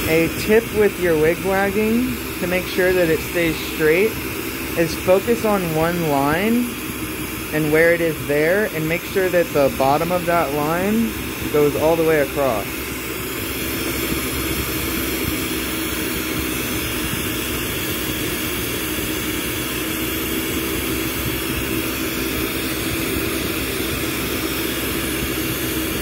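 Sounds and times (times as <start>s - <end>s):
constant low hum: 0.0s - 26.0s
torch burning with rushing roar: 0.0s - 26.0s.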